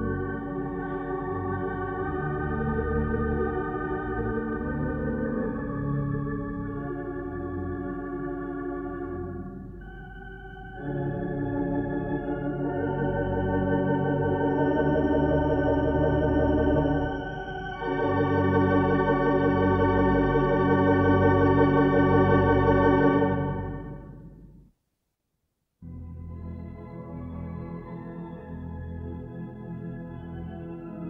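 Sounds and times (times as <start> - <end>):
pipe organ playing wavering chords: 0.0 - 24.3, 25.8 - 31.0.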